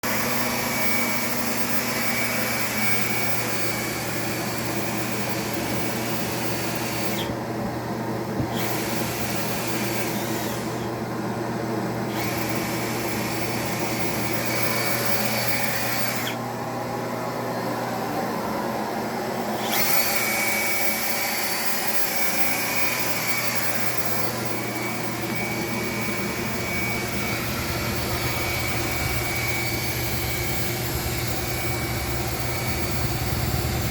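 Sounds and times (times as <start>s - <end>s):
vacuum humming and hissing: 0.0s - 33.9s.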